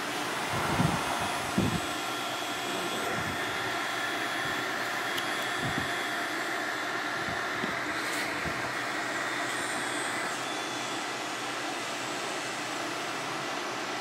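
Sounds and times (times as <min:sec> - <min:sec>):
whooshing machine noise: 0:00.0 - 0:13.5
faint high whines: 0:00.0 - 0:14.0.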